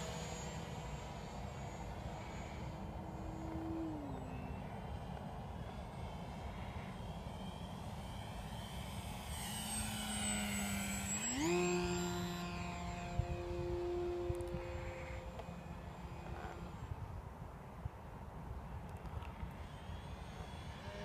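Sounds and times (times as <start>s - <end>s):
faint high whine: 0.0s - 21.0s
model plane motor and propeller: 0.0s - 21.0s.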